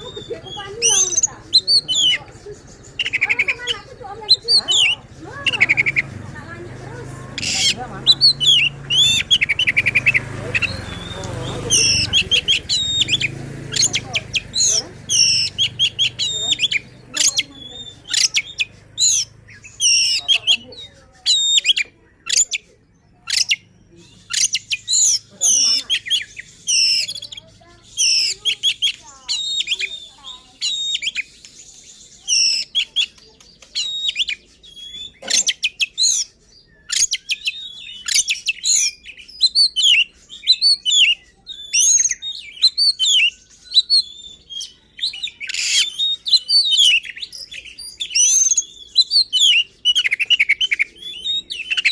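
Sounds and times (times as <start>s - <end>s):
bird singing fast whistled phrases: 0.0s - 51.9s
harsh rasping bird notes: 0.0s - 51.9s.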